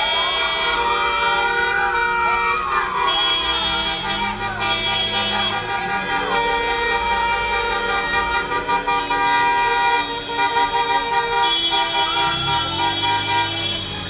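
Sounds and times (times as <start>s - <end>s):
many car horns honking: 0.0s - 14.0s.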